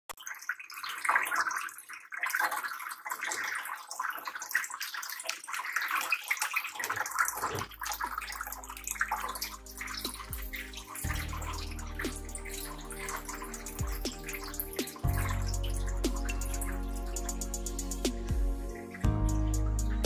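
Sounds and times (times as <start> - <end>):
fountain water splashing: 0.2 - 20.0.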